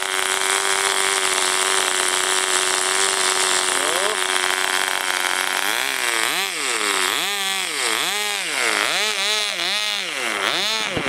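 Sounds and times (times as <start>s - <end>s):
model aircraft engine revving: 0.0s - 11.0s.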